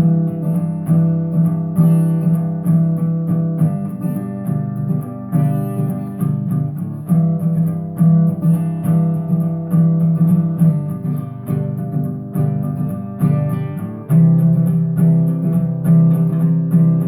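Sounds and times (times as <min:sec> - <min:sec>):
acoustic guitar chords ringing: 0:00.0 - 0:17.0.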